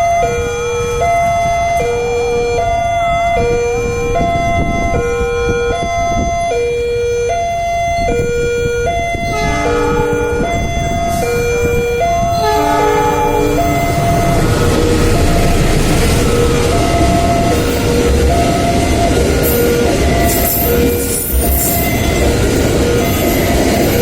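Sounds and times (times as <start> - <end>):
second set of siren tones: 0.0 - 22.2
level-crossing siren two-tone wail: 0.0 - 24.0
low traffic rumble: 0.0 - 24.0.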